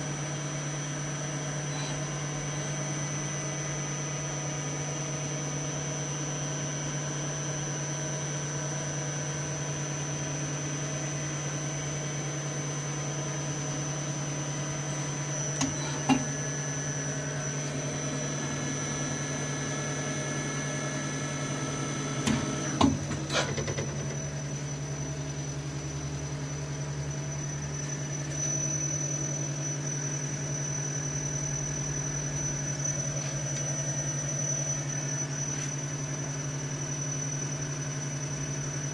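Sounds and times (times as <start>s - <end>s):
lathe humming and whining: 0.0s - 38.9s.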